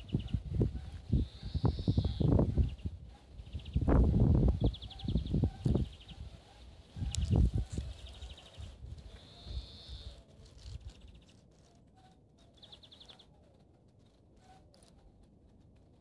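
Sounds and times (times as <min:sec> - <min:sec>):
high rapid bird trills: 0:00.0 - 0:14.6.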